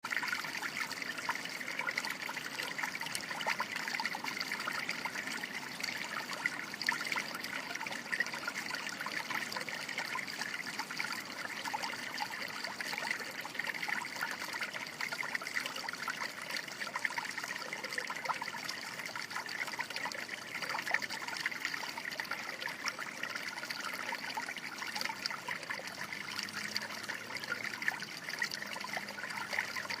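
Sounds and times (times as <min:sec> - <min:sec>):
water trickling and splashing: 0:00.0 - 0:30.0.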